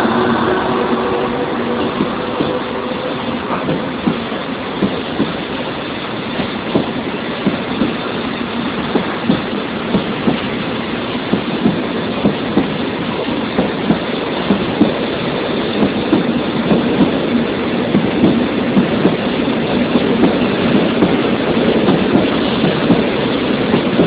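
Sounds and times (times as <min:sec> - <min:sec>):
train rolling rumble: 0:00.0 - 0:24.0
wheels clicking over rail joints: 0:03.3 - 0:24.0.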